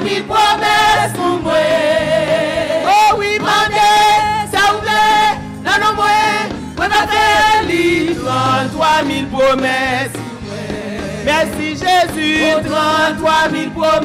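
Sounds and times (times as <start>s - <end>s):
instrumental accompaniment: 0.0s - 14.0s
voices singing gospel song: 0.0s - 14.0s.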